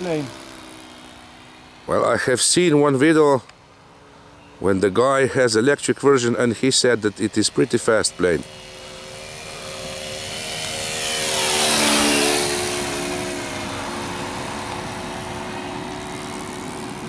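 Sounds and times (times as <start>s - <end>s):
model plane engine flyby: 0.0s - 17.0s.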